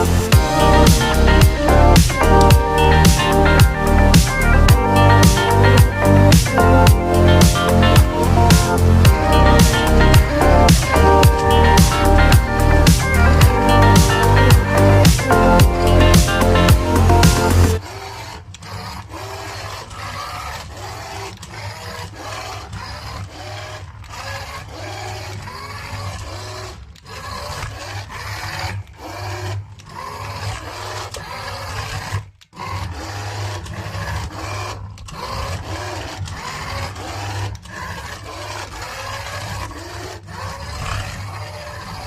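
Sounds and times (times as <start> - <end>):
small motor humming and whirring: 0.0 - 42.0.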